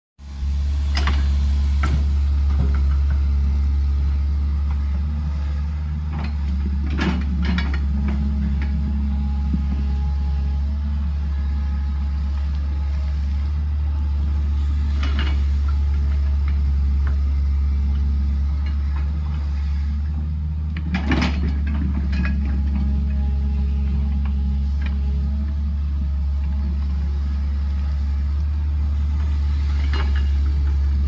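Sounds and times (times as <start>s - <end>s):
excavator diesel engine droning: 0.2s - 31.0s.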